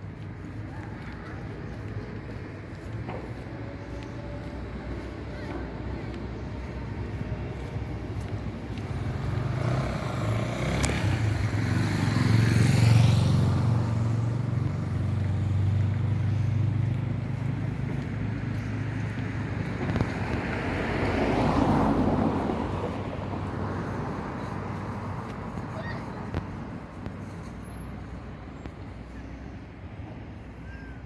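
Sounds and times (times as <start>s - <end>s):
vehicle engine running: 0.0s - 29.2s.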